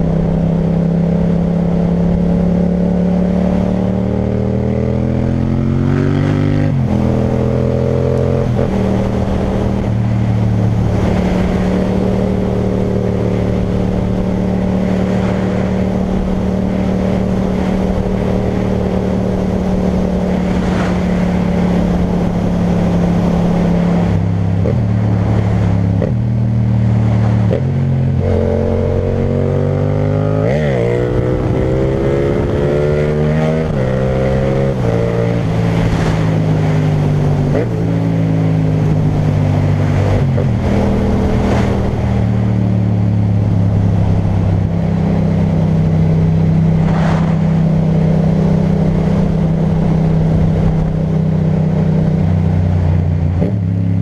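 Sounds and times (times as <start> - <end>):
motorcycle engine on the road: 0.0 - 54.0.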